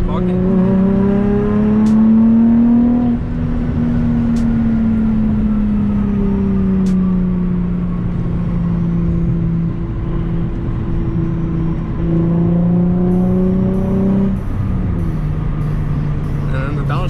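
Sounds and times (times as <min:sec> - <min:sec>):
car engine droning in cabin: 0:00.0 - 0:17.0.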